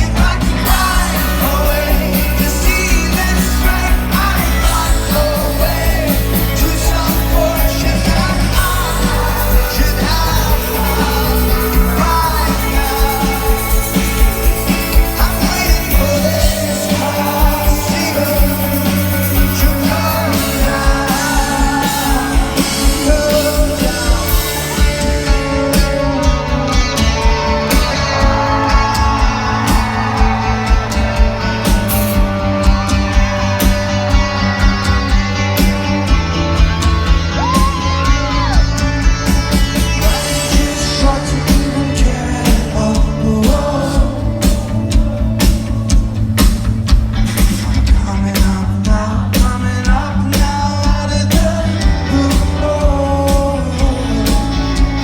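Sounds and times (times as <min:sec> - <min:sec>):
man singing: 0:00.0 - 0:46.6, 0:47.7 - 0:55.0
rock band playing live: 0:00.0 - 0:55.0.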